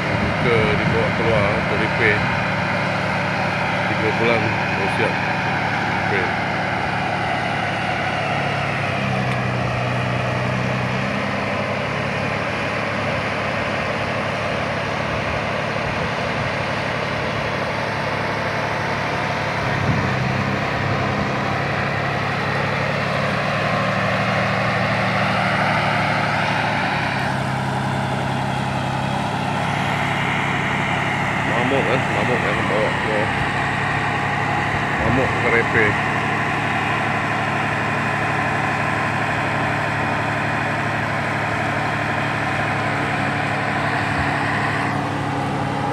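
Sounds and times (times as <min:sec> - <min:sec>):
large vehicle engine humming: 0:00.0 - 0:45.9.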